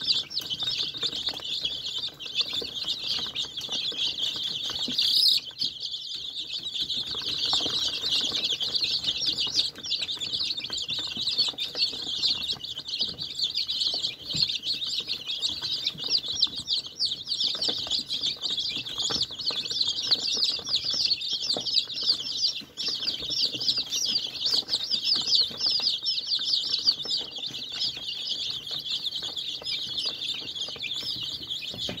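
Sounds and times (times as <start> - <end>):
baby chicks peeping: 0.0 - 32.0.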